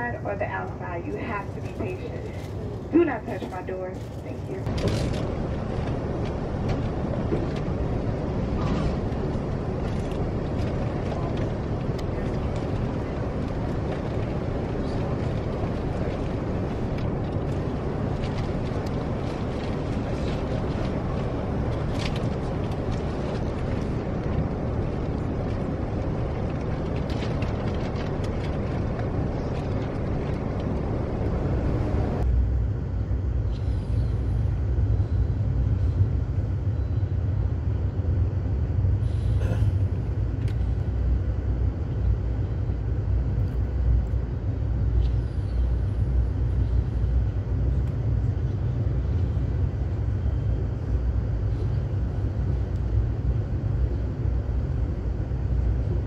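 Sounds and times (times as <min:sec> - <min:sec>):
train rumble and rattle: 0:00.0 - 0:56.0.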